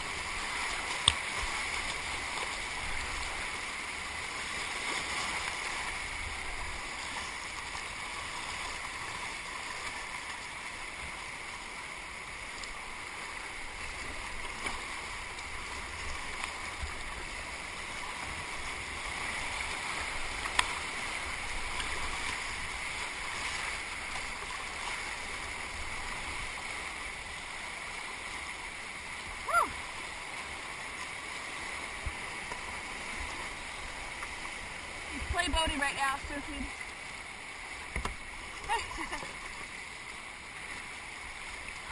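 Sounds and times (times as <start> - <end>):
paddle splashes: 0.0 - 41.9
rush of whitewater rapids: 0.0 - 41.9.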